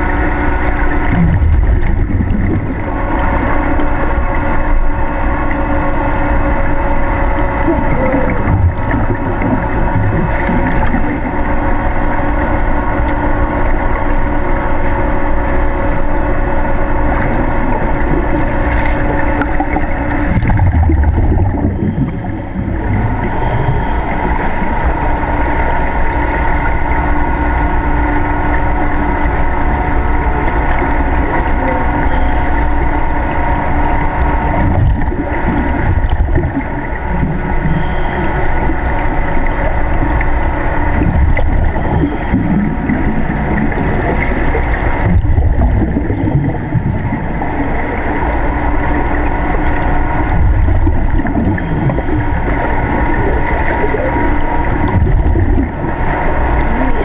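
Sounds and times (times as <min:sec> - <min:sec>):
underwater aquarium pump hum: 0:00.0 - 0:57.0.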